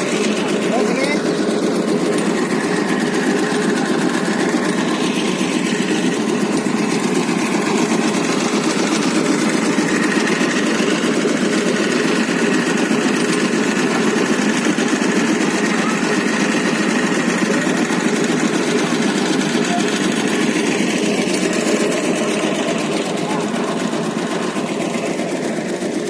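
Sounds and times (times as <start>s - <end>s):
cutting machine running: 0.0s - 26.0s.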